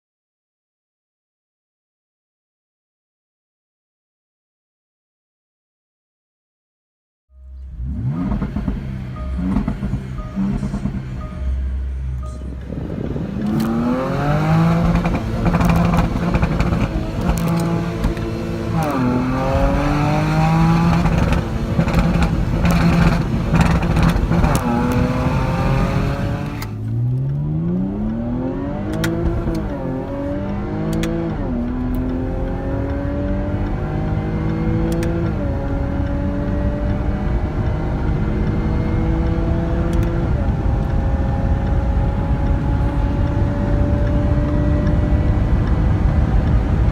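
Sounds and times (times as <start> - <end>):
car engine accelerating through gears: 7.4 - 46.9.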